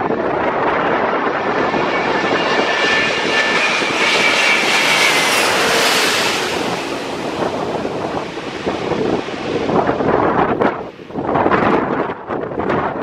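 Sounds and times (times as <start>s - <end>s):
jet airliner passing overhead: 0.0s - 12.8s.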